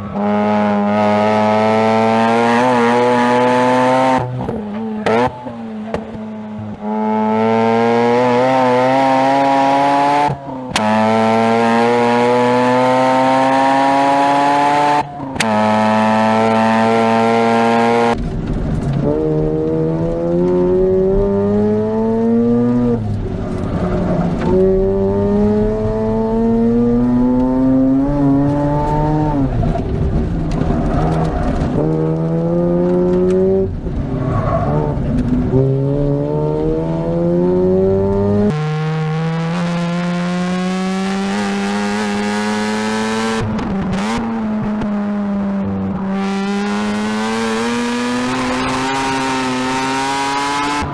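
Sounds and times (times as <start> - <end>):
rotary car engine revving: 0.1 - 50.9.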